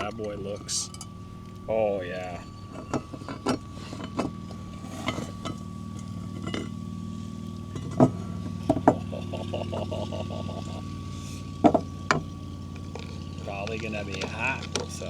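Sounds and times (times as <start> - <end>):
metal clinks and knocks: 0.0 - 15.0
stove fan hum: 0.0 - 15.0.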